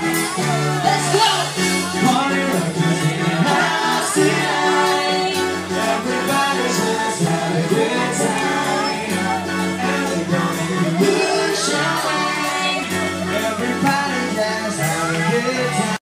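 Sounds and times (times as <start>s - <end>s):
live band playing: 0.0s - 16.0s
person singing: 1.7s - 16.0s.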